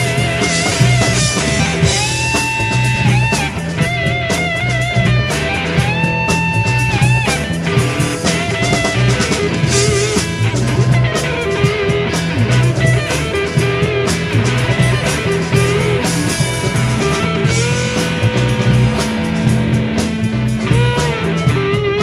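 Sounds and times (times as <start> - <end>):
bass guitar: 0.0 - 22.0
drum kit: 0.0 - 22.0
electric guitars: 0.0 - 22.0.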